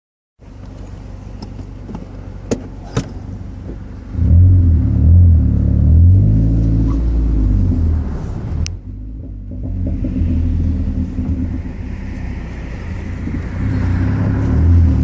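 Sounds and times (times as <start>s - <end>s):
car engine idling and revving: 0.4s - 15.0s.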